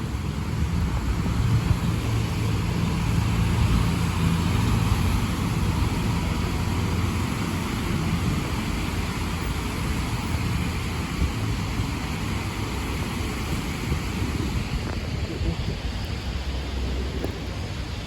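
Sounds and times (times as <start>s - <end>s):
bus engine humming: 0.0s - 18.0s
traffic hiss on wet road: 0.0s - 18.0s.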